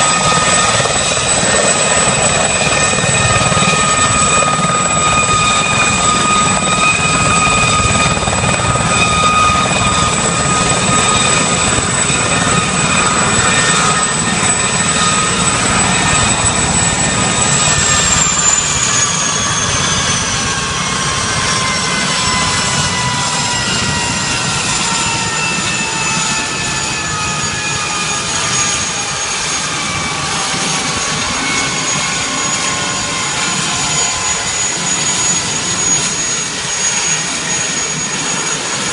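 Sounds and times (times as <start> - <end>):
helicopter rotor rumble: 0.0 - 38.9
helicopter turbine whine: 0.0 - 38.9.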